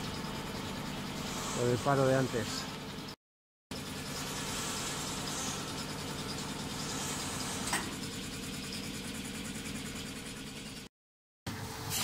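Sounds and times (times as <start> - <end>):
quilting machine humming: 0.0 - 3.1, 3.8 - 10.9.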